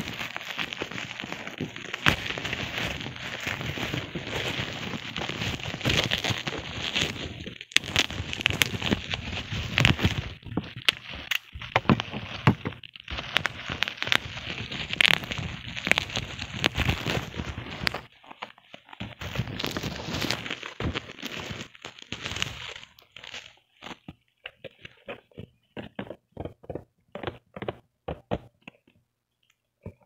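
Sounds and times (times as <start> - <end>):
bubble wrap crinkling and crackling: 0.0 - 25.6.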